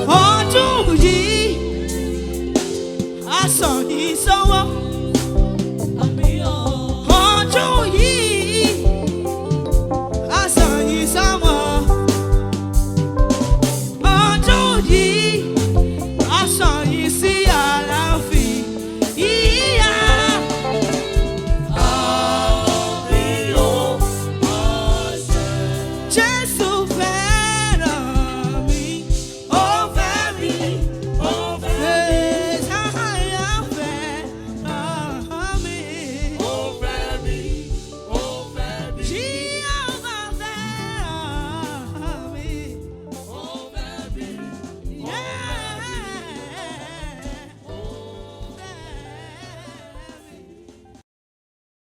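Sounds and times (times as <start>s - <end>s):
woman singing gospel: 0.0s - 12.6s, 13.9s - 50.9s
band with drum beat: 0.0s - 51.0s.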